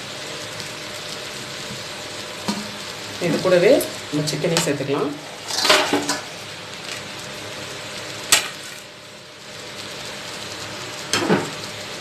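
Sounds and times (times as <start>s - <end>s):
fried rice sizzling in a pan: 0.0s - 12.0s.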